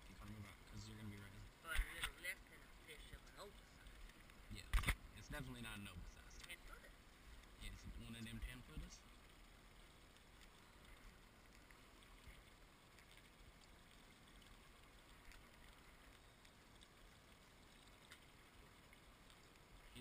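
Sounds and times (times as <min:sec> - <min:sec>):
faint open water: 0:00.0 - 0:20.0
faint ticks: 0:00.0 - 0:20.0.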